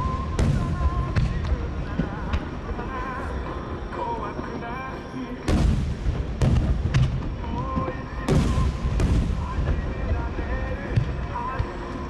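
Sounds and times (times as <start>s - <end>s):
low rumbling echo: 0.0s - 4.6s, 5.5s - 12.0s.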